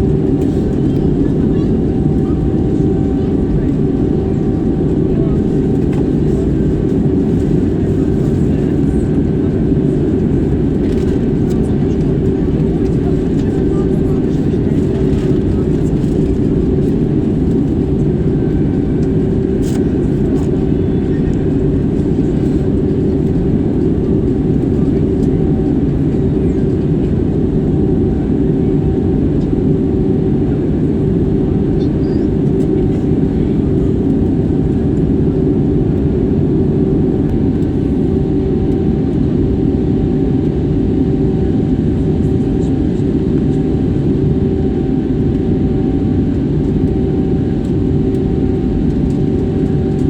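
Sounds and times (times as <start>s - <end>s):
jet airliner rumble: 0.0s - 50.0s.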